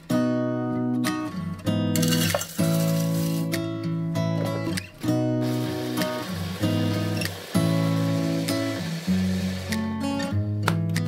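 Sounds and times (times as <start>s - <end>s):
acoustic guitar strumming chords: 0.1s - 10.7s.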